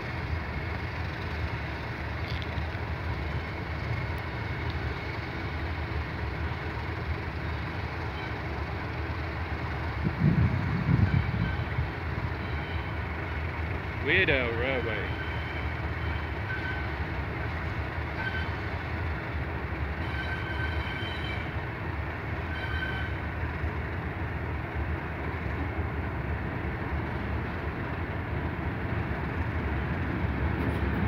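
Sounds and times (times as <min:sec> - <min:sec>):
diesel locomotive engine rumbling: 0:00.0 - 0:31.0
train wheels on rails: 0:00.0 - 0:31.0.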